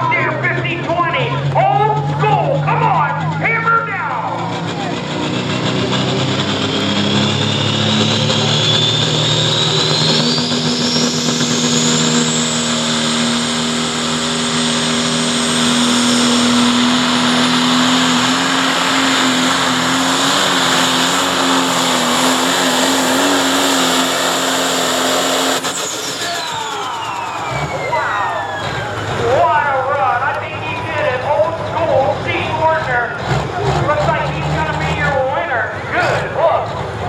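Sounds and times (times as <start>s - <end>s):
high engine whine: 0.0s - 37.0s
tractor diesel engine at full load: 0.0s - 37.0s.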